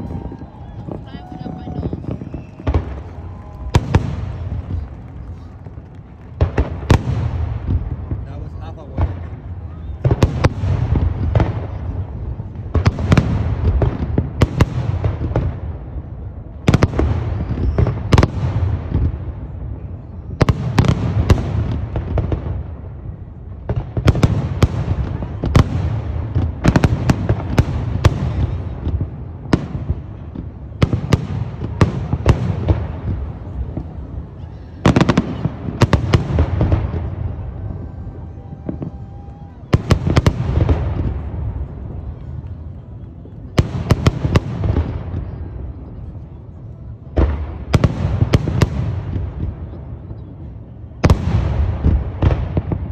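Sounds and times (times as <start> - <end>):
fireworks bangs: 0.0 - 52.9
low rumble and echo: 0.0 - 52.9.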